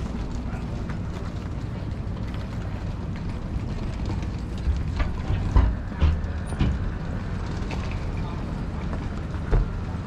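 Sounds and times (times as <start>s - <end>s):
low rumble of city ambience: 0.0s - 10.0s.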